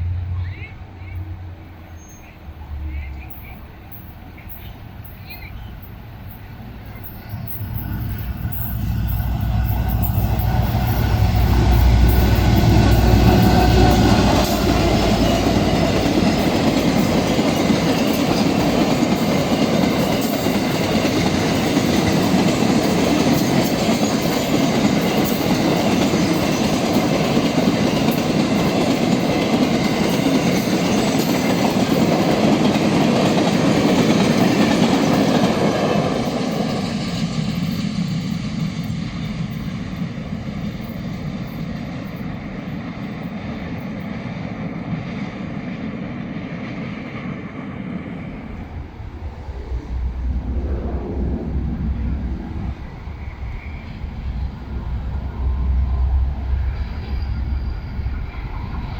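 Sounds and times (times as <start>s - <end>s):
diesel locomotive engine rumble: 0.0s - 58.9s.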